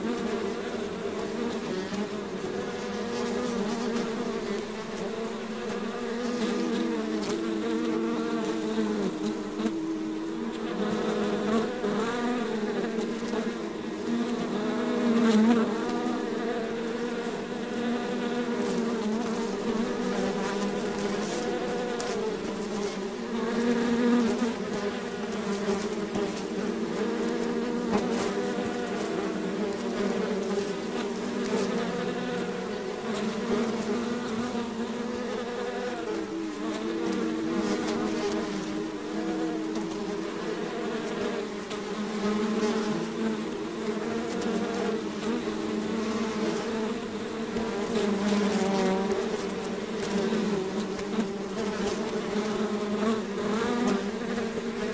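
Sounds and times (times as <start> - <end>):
swarm of bees buzzing: 0.0 - 54.9.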